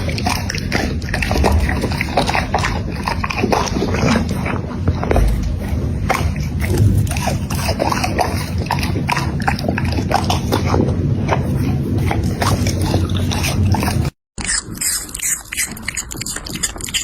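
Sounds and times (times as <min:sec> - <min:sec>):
steady low rumble: 0:00.0 - 0:14.2
dog chewing and lip-smacking: 0:00.0 - 0:17.0.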